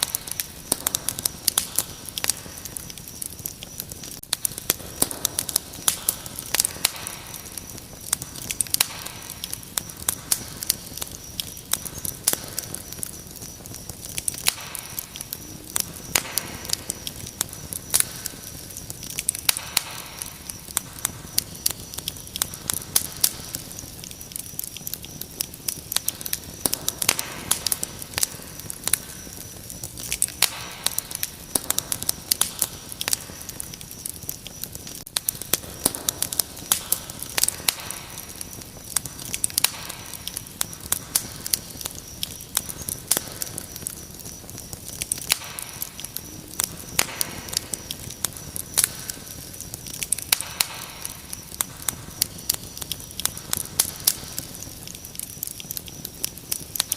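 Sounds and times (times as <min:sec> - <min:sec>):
cricket trill: 0:00.0 - 0:56.9
wood fire crackling: 0:00.0 - 0:56.9.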